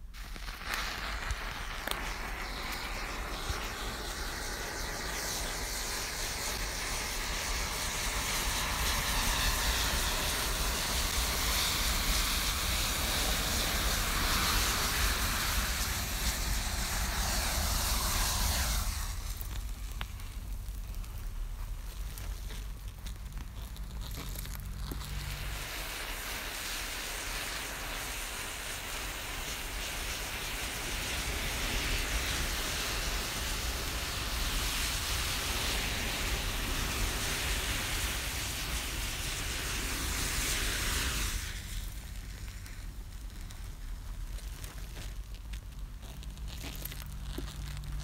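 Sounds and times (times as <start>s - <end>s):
matches fizzing and hissing: 0.0s - 48.0s.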